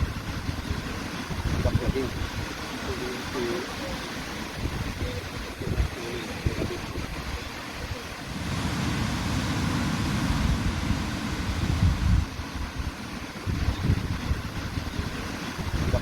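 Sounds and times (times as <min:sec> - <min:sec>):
ocean surf on a beach: 0:00.0 - 0:16.0
wind rumbling on microphone: 0:00.0 - 0:16.0.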